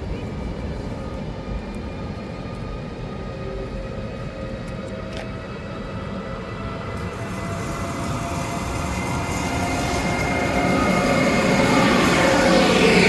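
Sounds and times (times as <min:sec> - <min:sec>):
electric locomotive whine and rumble: 0:00.0 - 0:13.0.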